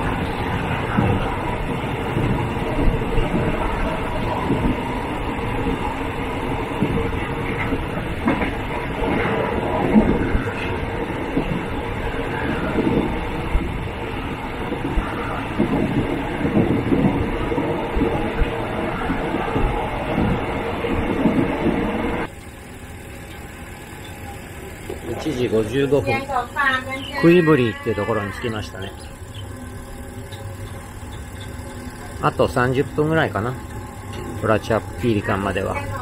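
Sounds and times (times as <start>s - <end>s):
train wheels rattling on rail: 0.0s - 36.0s.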